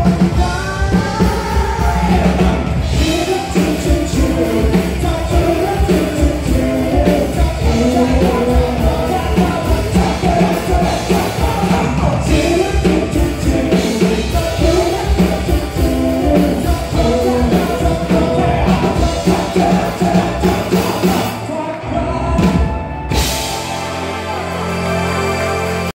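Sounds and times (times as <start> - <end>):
man singing into microphone: 0.0 - 22.7.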